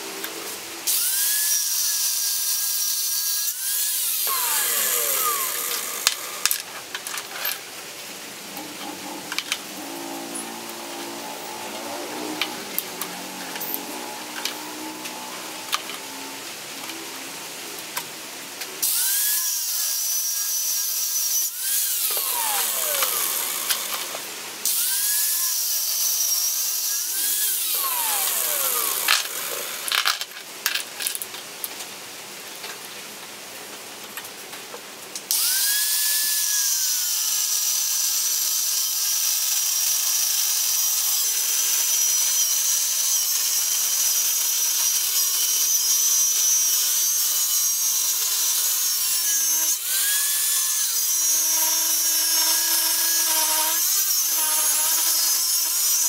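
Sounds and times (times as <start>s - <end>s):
angle grinder cutting steel: 0.1s - 7.7s, 8.4s - 17.6s, 18.8s - 31.2s, 35.3s - 56.0s.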